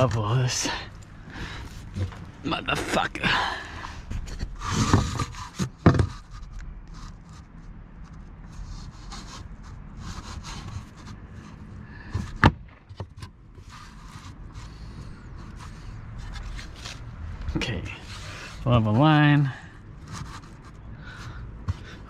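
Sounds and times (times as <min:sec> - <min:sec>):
rubbing and scraping on wall boards: 0:00.0 - 0:22.0.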